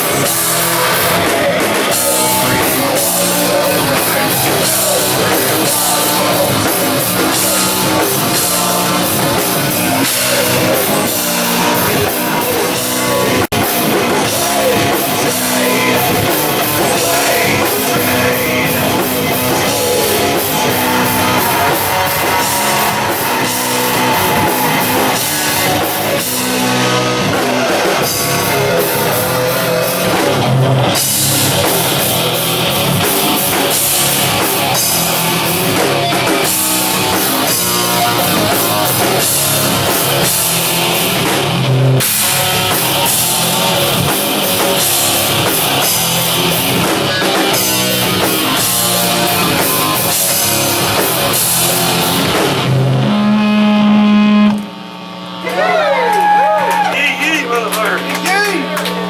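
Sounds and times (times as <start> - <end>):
drum kit: 0.0 - 59.0
electric guitars: 0.0 - 59.0
rock band playing heavy music: 0.0 - 59.0.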